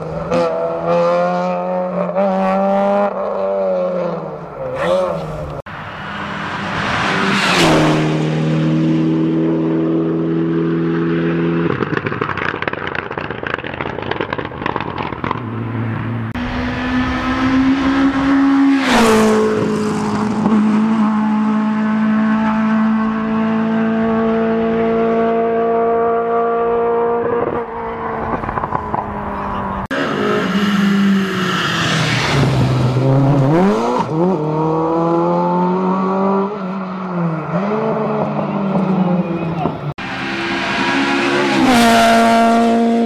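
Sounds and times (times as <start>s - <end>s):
rally cars passing at full throttle: 0.0s - 43.0s.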